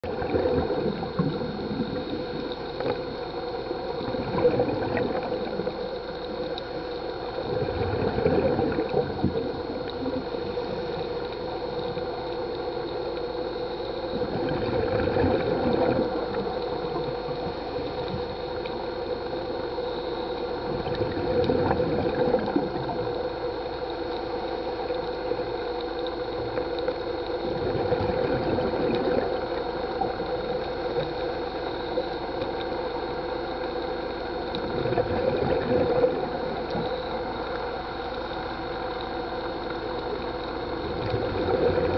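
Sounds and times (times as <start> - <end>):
exhaled bubbles gurgling underwater: 0.0 - 41.9
steady hum: 0.0 - 41.9.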